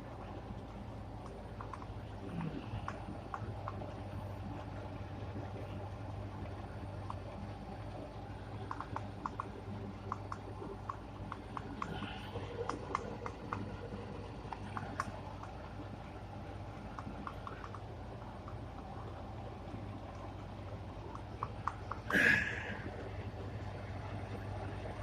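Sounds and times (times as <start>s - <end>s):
light clicks and ticks: 0.0s - 22.2s.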